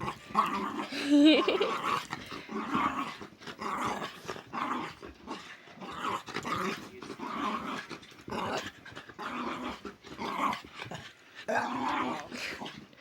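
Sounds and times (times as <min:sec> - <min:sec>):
dog play-growling: 0:00.0 - 0:13.0.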